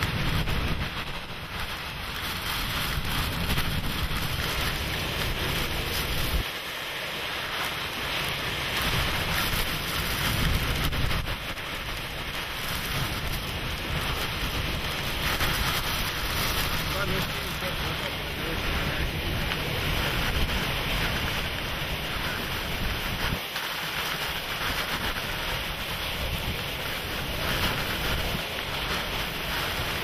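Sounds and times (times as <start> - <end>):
rain hissing: 0.0 - 30.0
wind buffeting the microphone: 0.0 - 30.0.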